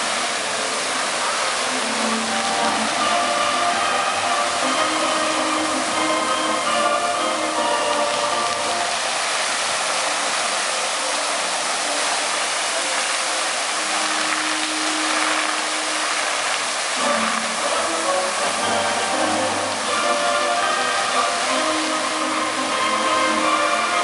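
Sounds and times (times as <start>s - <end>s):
fountain water jets splashing: 0.0s - 24.0s.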